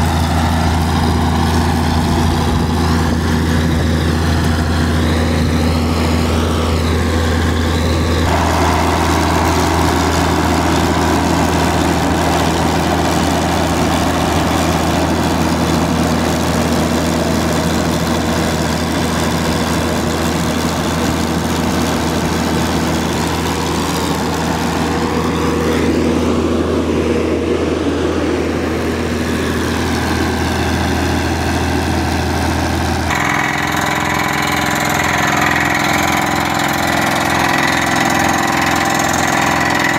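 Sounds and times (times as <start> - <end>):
drilling engine humming: 0.0 - 39.9.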